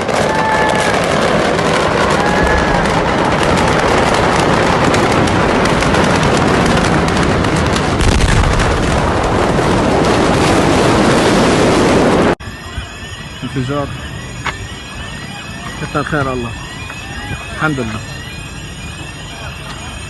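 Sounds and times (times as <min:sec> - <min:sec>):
roaring fire crackling and popping: 0:00.0 - 0:20.0.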